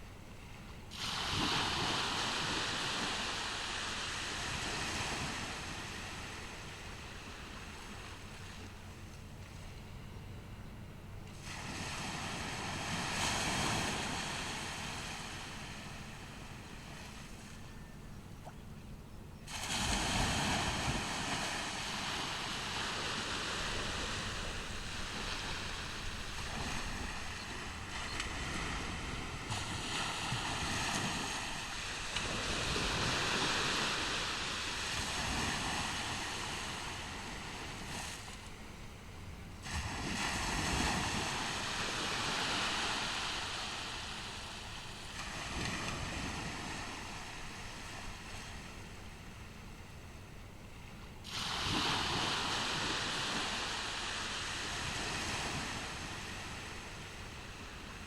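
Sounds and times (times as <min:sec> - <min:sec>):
ocean surf breaking: 0:00.9 - 0:08.6, 0:11.3 - 0:17.6, 0:19.5 - 0:38.5, 0:39.6 - 0:48.7, 0:51.2 - 0:58.0.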